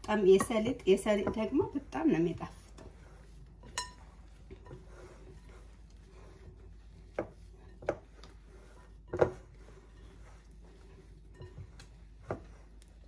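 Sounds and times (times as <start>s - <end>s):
hands mixing bread in glass bowl: 0.0s - 13.0s.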